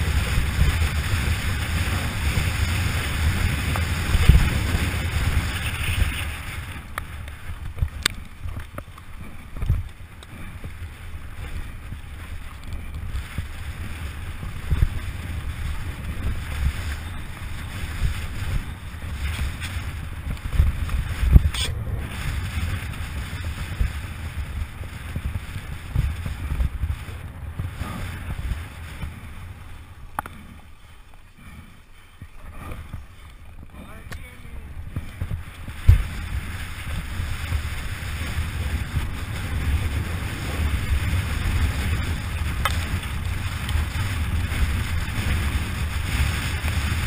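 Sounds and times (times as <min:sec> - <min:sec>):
bike rattling and knocking: 0:00.0 - 0:47.0
tyres rumbling over dirt: 0:00.0 - 0:47.0
wind buffeting microphone: 0:00.0 - 0:47.0.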